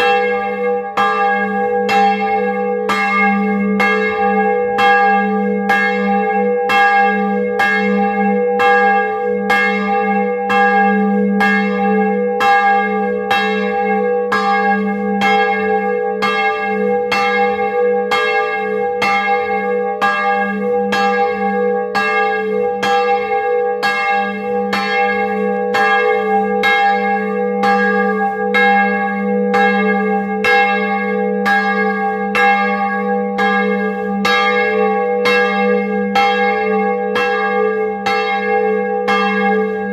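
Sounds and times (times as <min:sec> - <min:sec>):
church bell pealing: 0:00.0 - 0:39.9.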